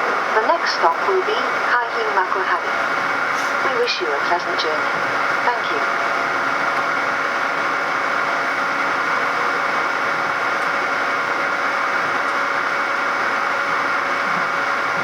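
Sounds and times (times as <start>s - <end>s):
faint steady tones: 0.0s - 15.0s
train running noise: 0.0s - 15.0s.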